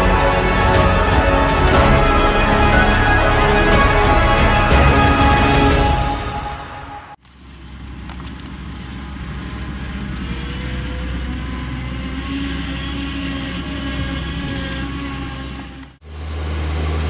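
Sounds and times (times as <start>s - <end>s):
combine harvester running: 0.0s - 6.3s, 7.2s - 17.0s.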